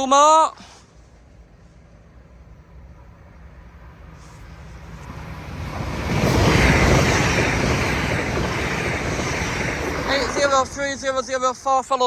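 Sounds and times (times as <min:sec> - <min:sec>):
train passing at speed: 0:01.0 - 0:12.0.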